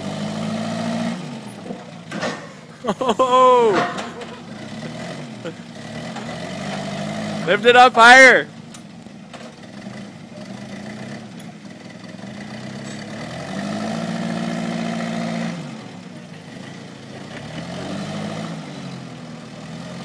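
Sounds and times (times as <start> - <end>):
forklift engine idling and revving: 0.0 - 20.0.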